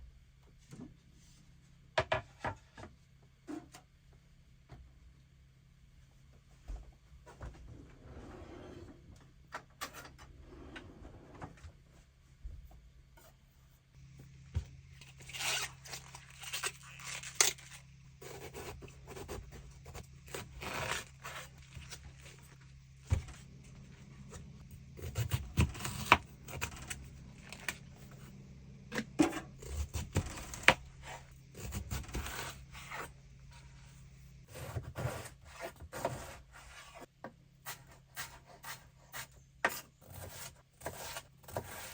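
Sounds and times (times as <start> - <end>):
faint low hum: 0.0 - 40.4.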